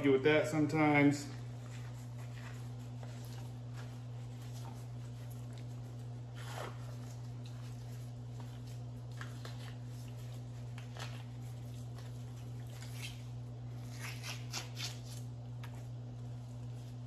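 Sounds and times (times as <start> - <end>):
paper towel rustling: 0.0 - 17.0
steady low hum: 0.0 - 17.0.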